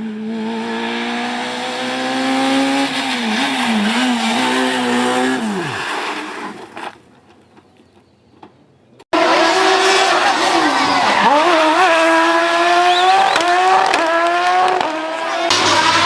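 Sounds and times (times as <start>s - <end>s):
rally car engine revving: 0.0s - 6.4s, 9.2s - 16.0s.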